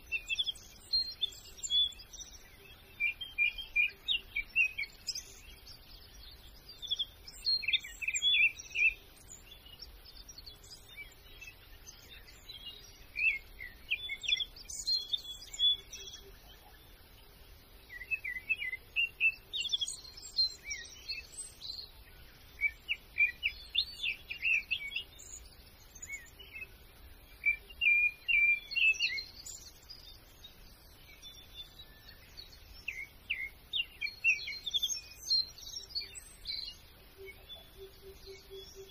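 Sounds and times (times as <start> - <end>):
faint outdoor background: 0.0 - 38.9
songbirds chirping and singing: 0.0 - 38.9.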